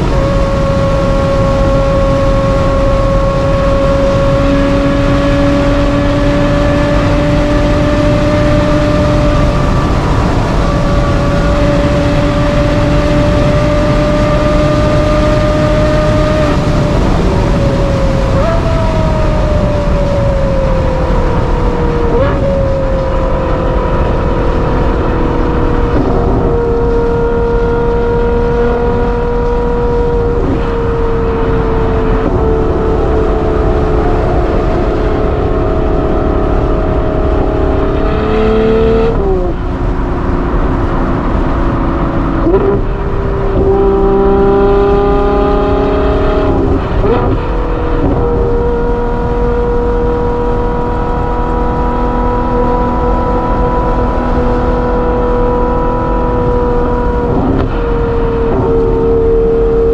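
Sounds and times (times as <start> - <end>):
car engine cruising: 0.0 - 59.9
wind and tyre roar: 0.0 - 59.9.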